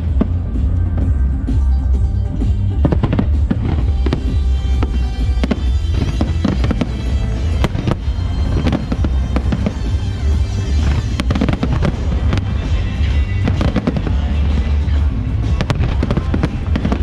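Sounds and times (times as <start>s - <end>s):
fireworks bangs and pops: 0.0s - 17.0s
low booming rumble: 0.0s - 17.0s
music playing: 0.0s - 17.0s.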